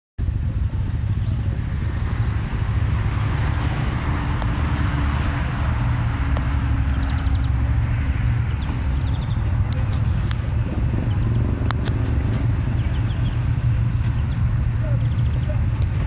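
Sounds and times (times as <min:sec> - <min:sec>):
quad bike engines idling: 0:00.2 - 0:16.0.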